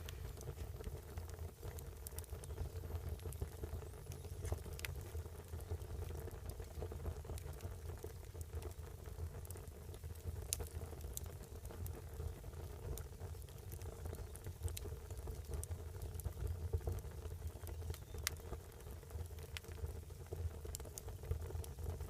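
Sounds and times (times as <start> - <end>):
fire crackles and pops: 0.0 - 22.0
wood fire roaring: 0.0 - 22.0.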